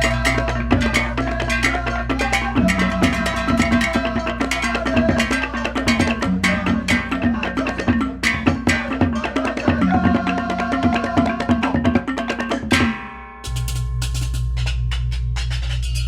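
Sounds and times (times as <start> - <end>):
cymbals and drums: 0.0 - 16.0
gamelan processional music: 0.0 - 16.0.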